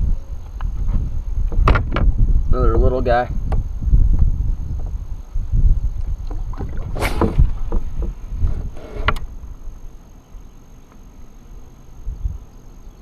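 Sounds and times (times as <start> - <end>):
wind rumble on microphone: 0.0 - 10.6, 11.2 - 13.0.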